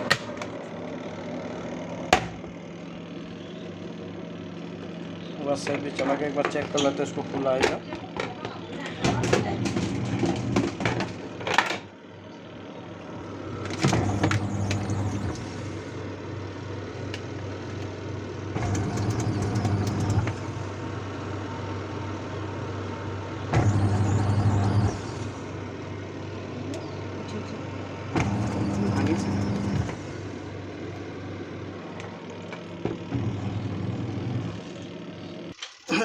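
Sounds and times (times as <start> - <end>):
washing machine motor humming: 0.0 - 36.0.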